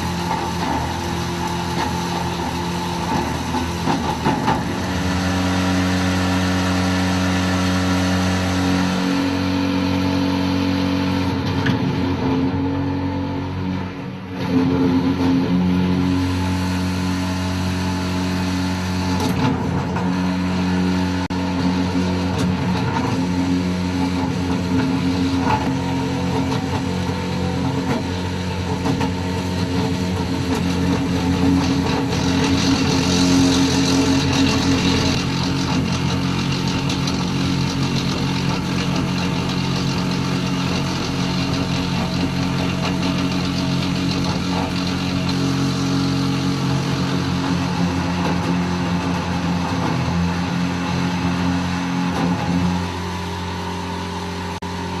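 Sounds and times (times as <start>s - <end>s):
sewage pump motor hum: 0.0s - 55.0s.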